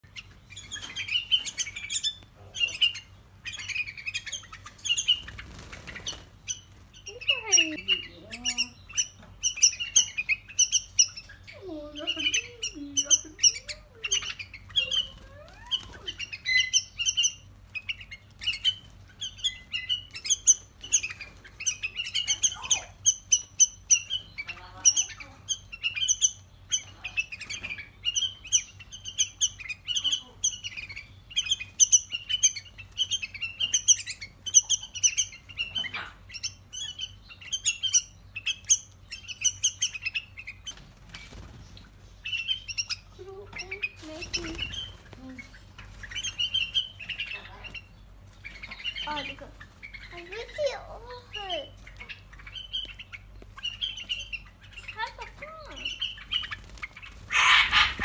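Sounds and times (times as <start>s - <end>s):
chicks chirping harshly: 0.0s - 58.0s
wings fluttering: 0.0s - 58.0s.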